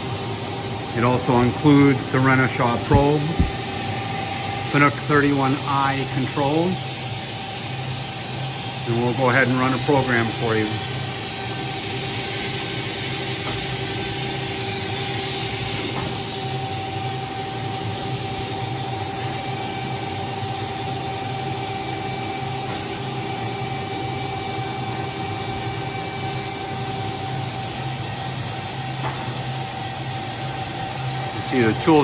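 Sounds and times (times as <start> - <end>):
constant machine whine: 0.0 - 32.0
machine hum and hiss: 0.0 - 32.0.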